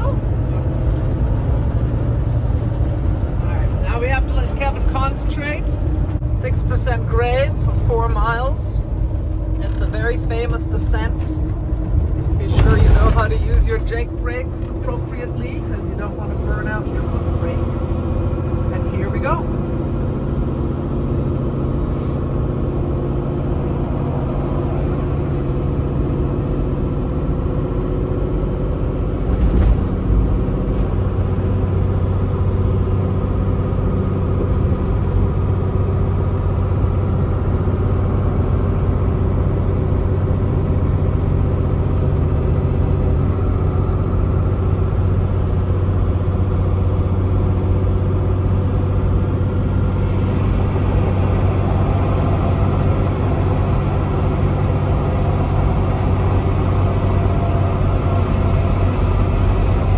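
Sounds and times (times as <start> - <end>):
road noise: 0.0 - 59.9
truck diesel engine droning: 0.0 - 59.9.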